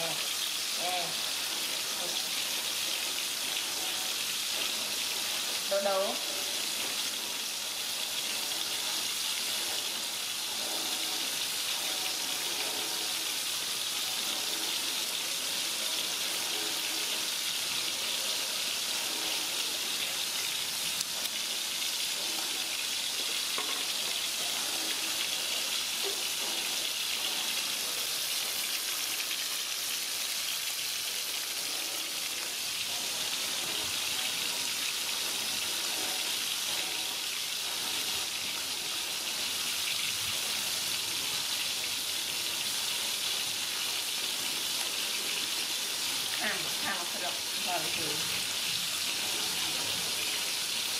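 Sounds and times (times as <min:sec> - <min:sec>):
fish sizzling in hot oil: 0:00.0 - 0:50.9.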